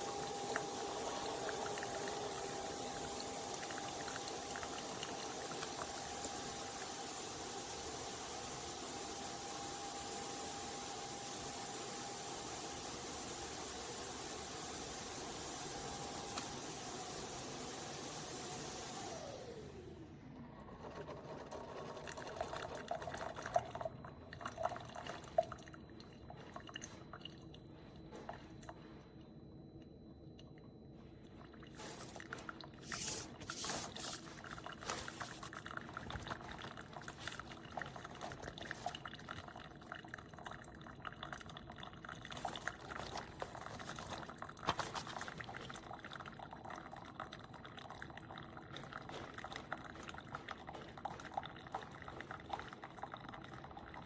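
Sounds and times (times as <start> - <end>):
coffee pouring and dribbling: 0.0 - 19.1, 20.4 - 54.0.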